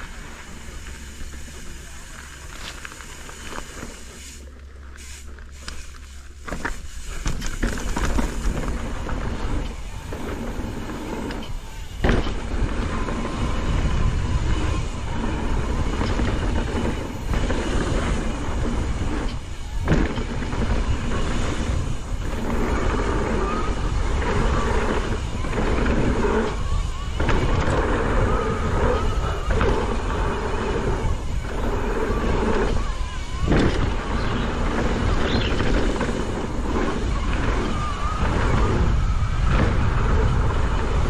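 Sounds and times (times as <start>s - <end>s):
bike tyres on dirt: 0.0s - 41.0s
wind buffeting microphone: 6.3s - 41.0s.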